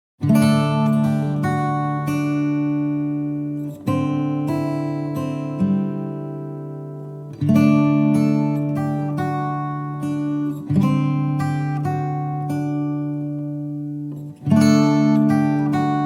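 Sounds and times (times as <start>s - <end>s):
acoustic guitar strumming chords: 0.2s - 16.0s.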